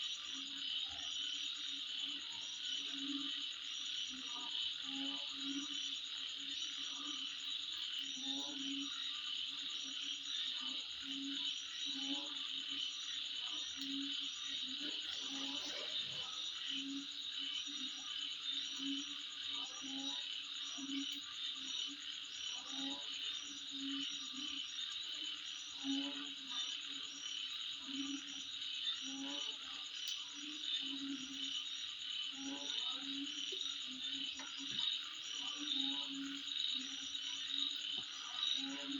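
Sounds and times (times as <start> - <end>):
frogs calling: 0.0 - 38.9
insects trilling and chirping: 0.0 - 38.9.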